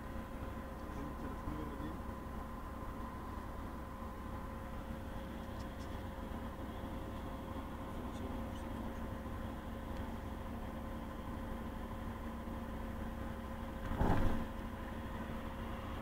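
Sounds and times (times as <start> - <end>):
steady hum: 0.0 - 16.0
vehicle road rumble: 0.0 - 16.0.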